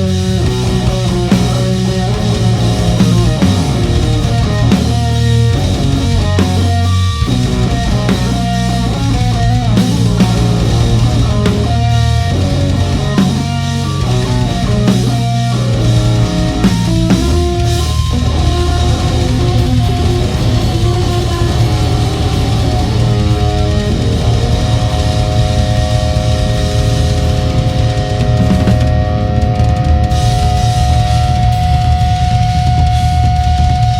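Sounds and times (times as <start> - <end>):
bass guitar: 0.0 - 33.9
distorted electric guitars: 0.0 - 33.9
drum kit: 0.0 - 33.9.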